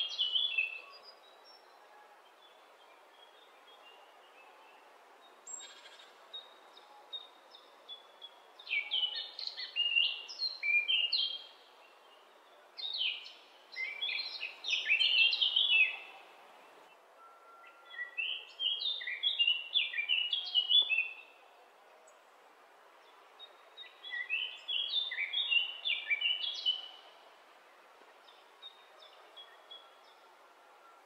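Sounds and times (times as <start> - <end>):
bird song with rapid high notes: 0.0 - 21.4, 23.0 - 27.1, 28.2 - 31.0
faint background hiss: 0.0 - 31.0.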